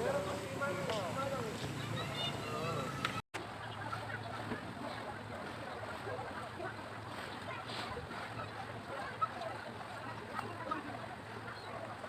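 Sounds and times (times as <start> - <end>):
faint distant chatter: 0.0 - 12.0.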